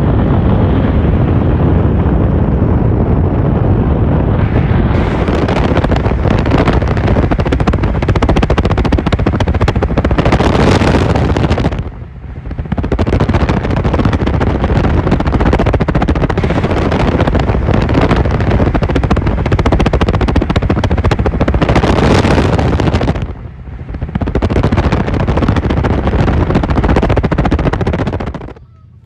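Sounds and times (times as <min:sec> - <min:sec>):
pickup engine and exhaust rumble: 0:00.0 - 0:29.0
road and wind noise: 0:00.0 - 0:29.0.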